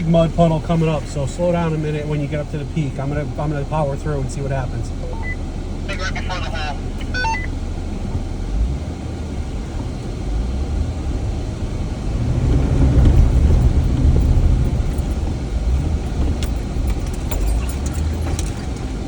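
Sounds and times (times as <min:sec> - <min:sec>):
car engine rumble from inside cabin: 0:00.0 - 0:19.0.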